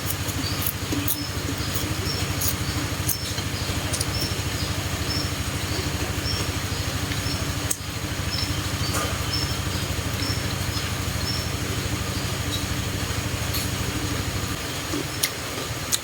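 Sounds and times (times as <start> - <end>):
low pulsing motor drone: 0.0 - 16.0.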